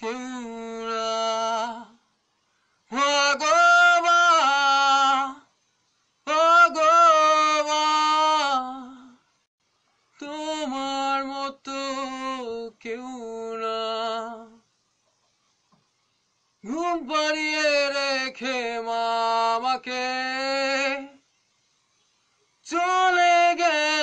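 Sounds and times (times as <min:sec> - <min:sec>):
man singing unaccompanied: 0:00.0 - 0:09.4, 0:10.1 - 0:14.7, 0:16.6 - 0:21.4, 0:22.6 - 0:24.0.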